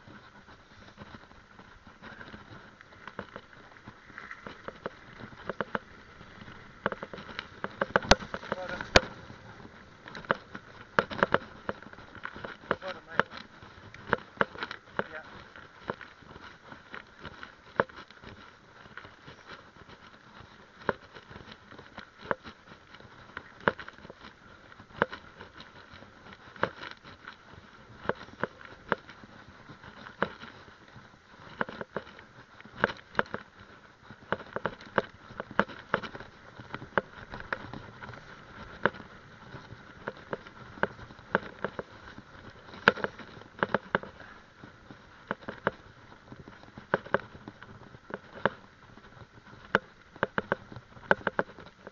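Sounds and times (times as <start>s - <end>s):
bike clicks and rattles: 0.0s - 51.9s
bike rolling on dirt trail: 0.0s - 51.9s.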